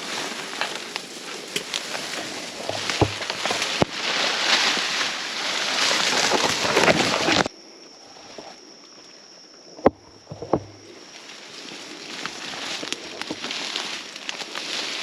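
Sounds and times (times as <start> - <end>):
rustling through undergrowth: 0.0 - 9.2, 9.8 - 15.0.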